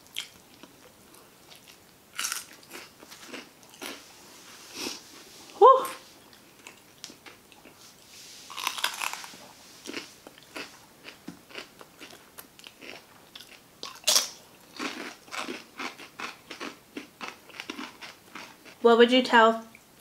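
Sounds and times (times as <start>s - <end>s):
person chewing crunchy food: 0.0s - 5.1s, 6.2s - 18.8s.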